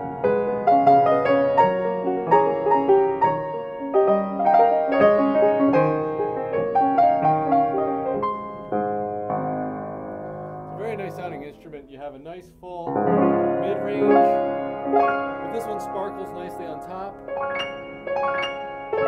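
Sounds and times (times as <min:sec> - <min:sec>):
grand piano playing: 0:00.0 - 0:19.0.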